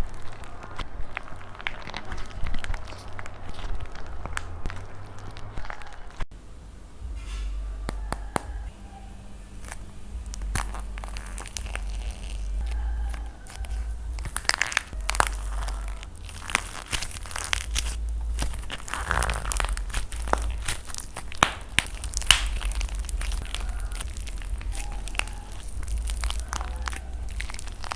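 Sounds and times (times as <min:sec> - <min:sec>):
dried clay crunching and crackling: 0:00.0 - 0:06.2, 0:07.0 - 0:27.9.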